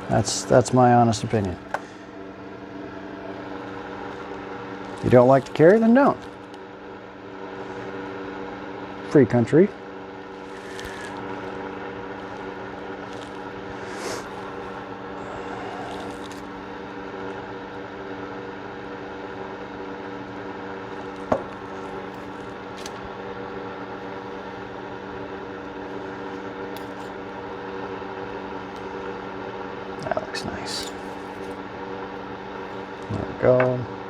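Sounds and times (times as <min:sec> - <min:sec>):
machine-like hum: 0:00.0 - 0:34.0.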